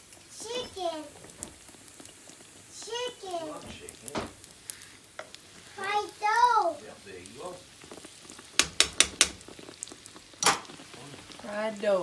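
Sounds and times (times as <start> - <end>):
dough sizzling in hot oil: 0.0 - 12.0.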